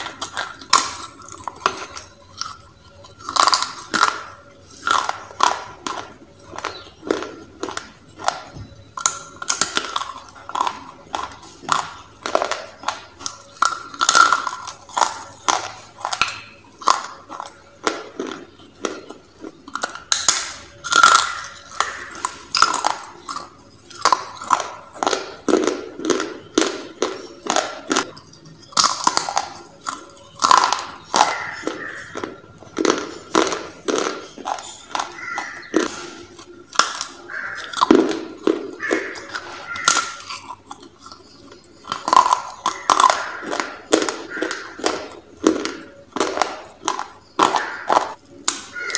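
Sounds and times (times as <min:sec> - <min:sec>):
crunchy chewing: 0:00.0 - 0:48.9.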